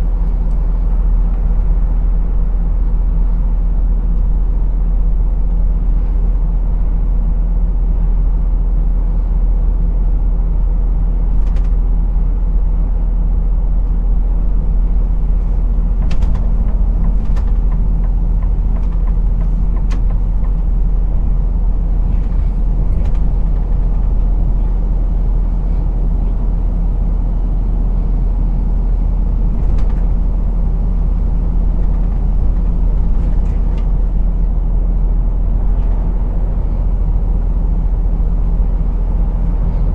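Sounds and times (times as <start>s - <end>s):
road noise: 0.0s - 9.9s, 10.9s - 39.9s
truck engine rumble: 0.0s - 39.9s.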